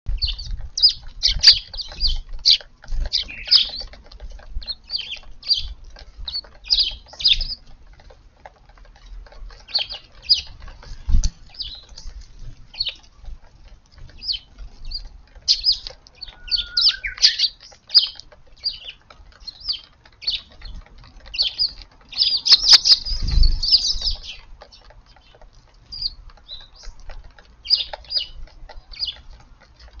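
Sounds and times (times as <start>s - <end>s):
sparrows chirping: 0.1s - 30.0s.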